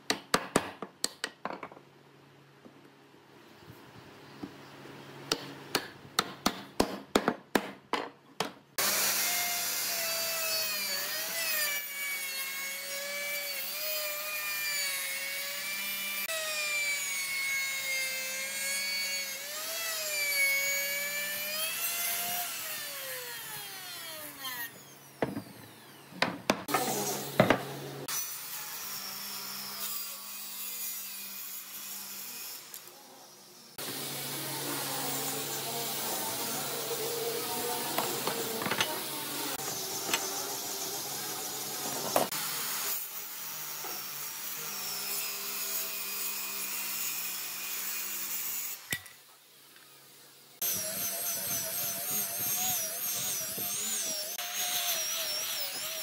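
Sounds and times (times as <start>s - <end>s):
router cutting wood: 8.8s - 33.0s, 33.6s - 48.9s, 50.6s - 56.0s.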